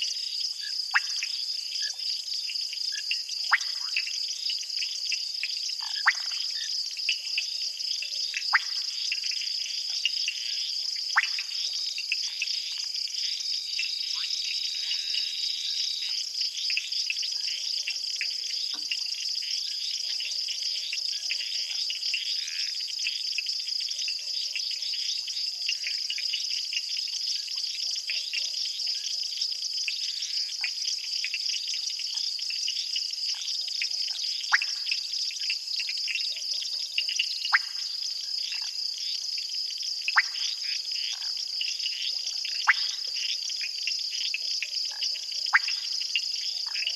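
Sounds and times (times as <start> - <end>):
sharp cricket chirps: 0.0 - 46.9
insects trilling: 2.8 - 46.9.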